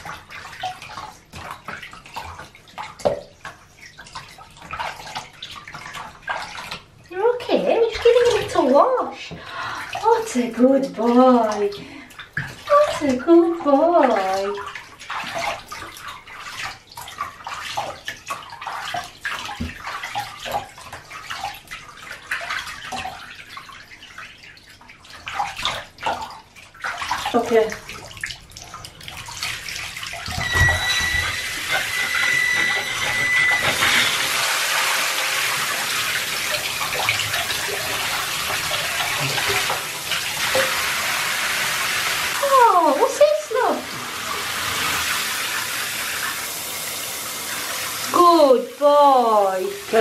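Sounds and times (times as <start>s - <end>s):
bathwater splashing: 0.0s - 50.0s.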